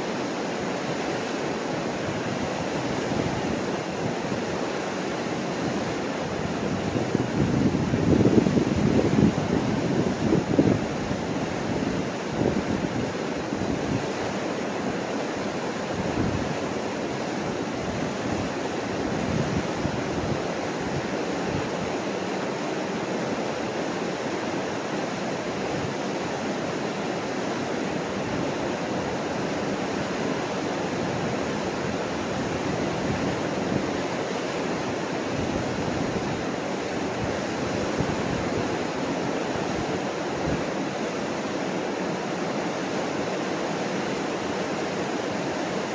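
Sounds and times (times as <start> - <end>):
rush of rapids: 0.0 - 45.9.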